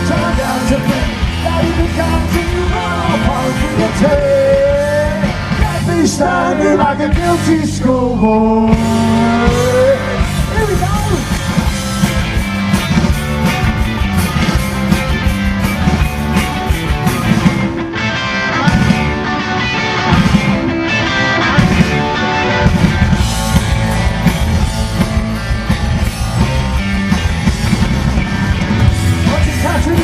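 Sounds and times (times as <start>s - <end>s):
bass guitar: 0.0s - 30.0s
drums: 0.0s - 30.0s
electric guitar: 0.0s - 30.0s.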